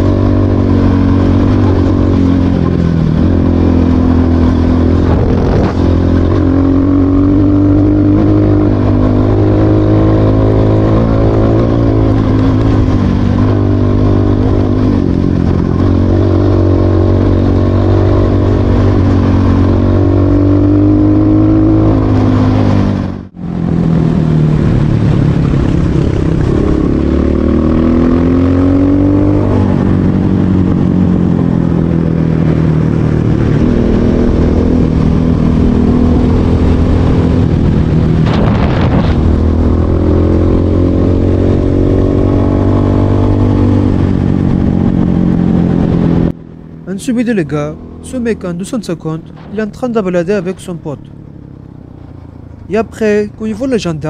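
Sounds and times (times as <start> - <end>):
dirt bike engine revving: 0.0 - 23.3, 24.4 - 46.3.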